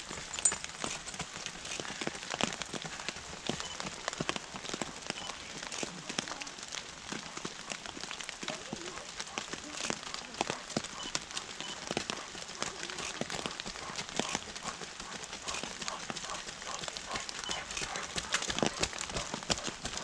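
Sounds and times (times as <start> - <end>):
rain falling: 0.0 - 20.0
raindrops tapping: 0.0 - 20.0.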